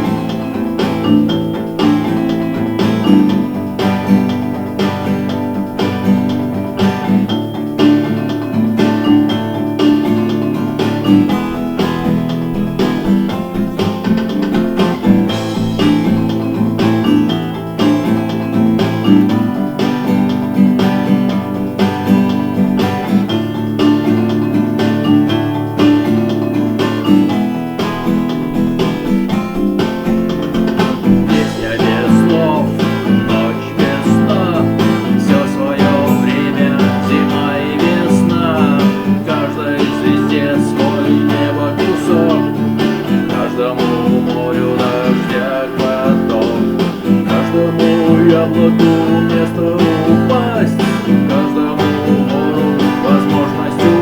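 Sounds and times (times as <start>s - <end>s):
instrumental rock music: 0.0s - 54.0s
strummed guitar: 0.0s - 54.0s
wavering melody line: 0.0s - 54.0s.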